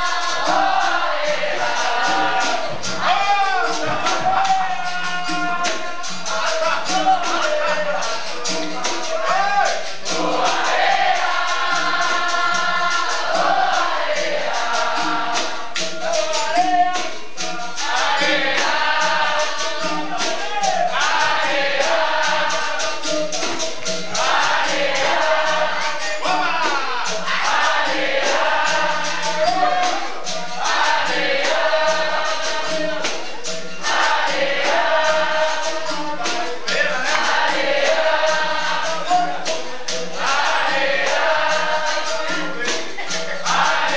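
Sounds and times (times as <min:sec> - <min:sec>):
berimbau rhythm: 0:00.0 - 0:43.9
group of voices singing: 0:00.0 - 0:43.9
tambourine: 0:00.0 - 0:43.9.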